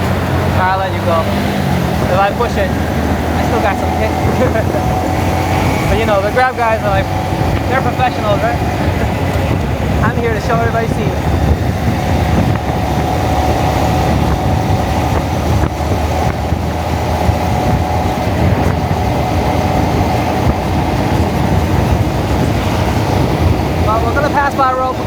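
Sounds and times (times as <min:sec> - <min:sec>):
motorcycle engine rumbling: 0:00.0 - 0:25.0
wind buffeting microphone: 0:00.0 - 0:25.0.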